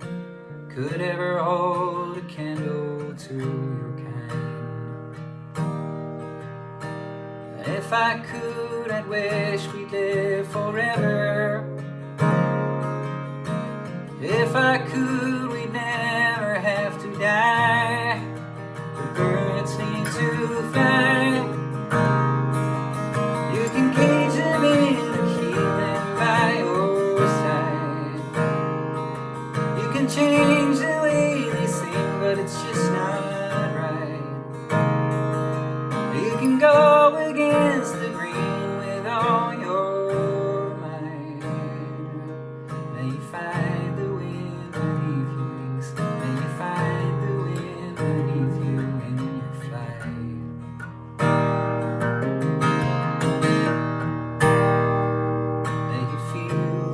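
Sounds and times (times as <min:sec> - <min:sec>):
acoustic guitar folk instrumental: 0:00.0 - 0:56.9.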